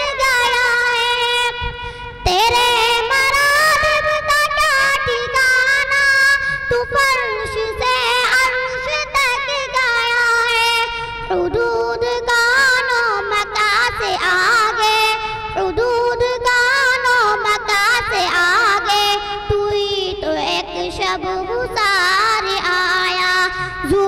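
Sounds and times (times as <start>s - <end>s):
girl singing into microphone: 0.0s - 24.0s.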